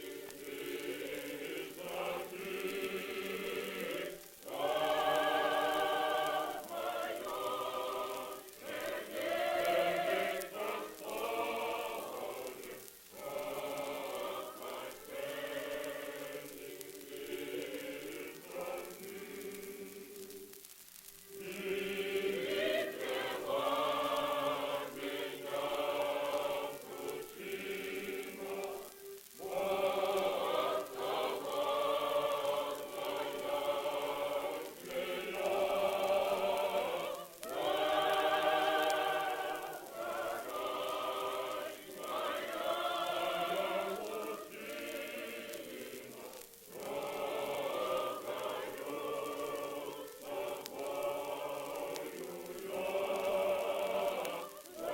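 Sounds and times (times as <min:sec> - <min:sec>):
choir singing slow song: 0:00.0 - 0:54.9.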